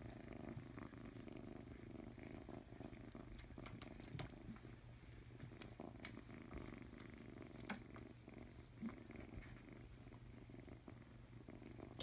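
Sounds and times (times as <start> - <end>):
kitten purring: 0.0 - 12.0.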